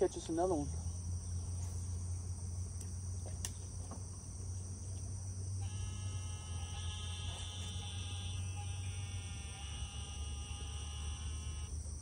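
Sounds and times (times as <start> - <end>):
faint multi-pitch hum: 0.0 - 12.0
insects chirping: 0.0 - 12.0
low steady rumble: 0.0 - 12.0.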